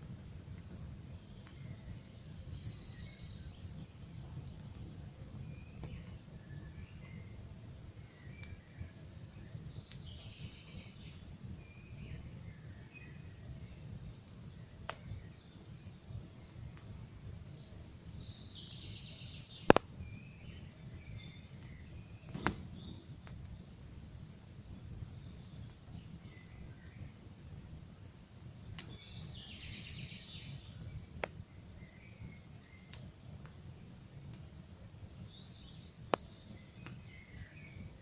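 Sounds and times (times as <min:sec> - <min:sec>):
campfire burning and popping: 0:00.0 - 0:29.4, 0:30.0 - 0:38.0
songbirds chirping: 0:00.0 - 0:38.0.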